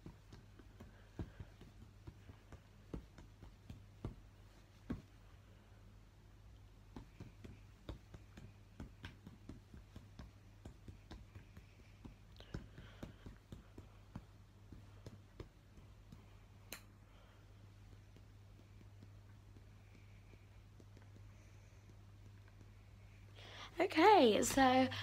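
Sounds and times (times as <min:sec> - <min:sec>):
light clicks and taps: 0:00.0 - 0:05.3, 0:06.6 - 0:17.0, 0:17.7 - 0:23.2
low steady hum: 0:00.0 - 0:25.0.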